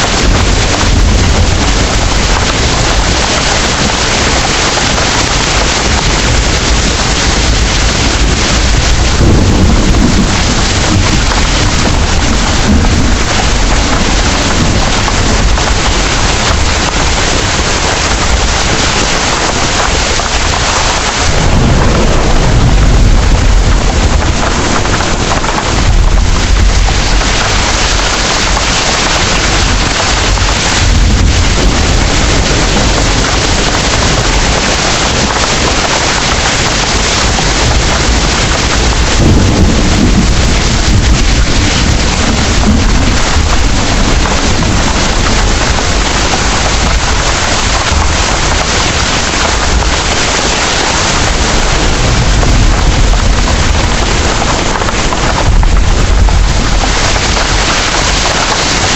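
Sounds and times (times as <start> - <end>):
heavy rain pouring: 0.0 - 58.9
thunder rumbling: 0.0 - 58.9.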